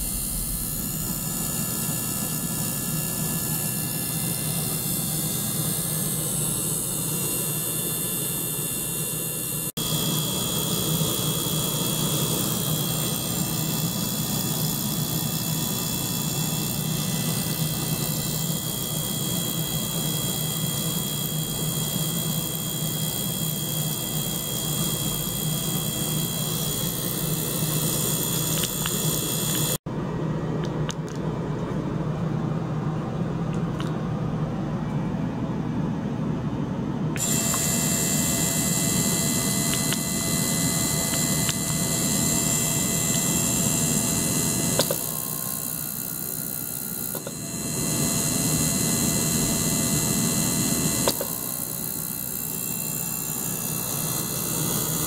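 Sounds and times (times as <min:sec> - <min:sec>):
pump motor whirring: 0:00.0 - 0:29.8, 0:37.1 - 0:55.0
ultrasonic cleaner running: 0:00.0 - 0:29.8, 0:37.0 - 0:55.0.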